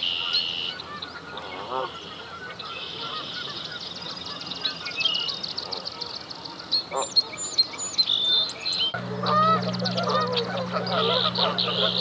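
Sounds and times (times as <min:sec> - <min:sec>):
geese honking: 0:00.0 - 0:06.2, 0:08.1 - 0:12.0
birds chirping and trilling: 0:00.0 - 0:12.0.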